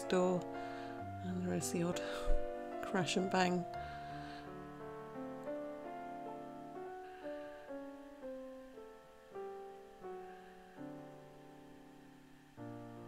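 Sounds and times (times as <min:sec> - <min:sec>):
soft piano melody: 0:00.0 - 0:13.0.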